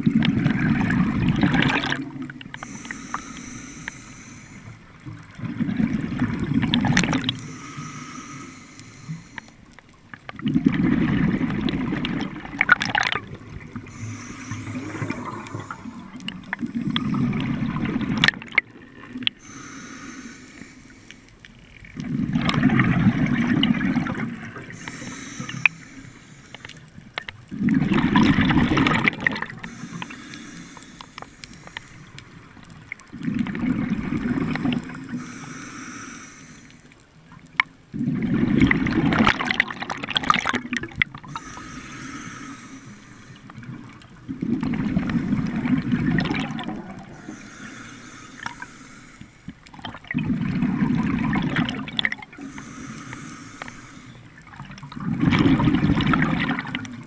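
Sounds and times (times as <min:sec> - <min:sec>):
diver exhaling bubbles underwater: 0:00.0 - 0:03.8, 0:05.2 - 0:09.4, 0:10.4 - 0:19.8, 0:21.9 - 0:25.8, 0:27.5 - 0:32.2, 0:33.0 - 0:35.6, 0:37.9 - 0:48.8, 0:49.5 - 0:57.0.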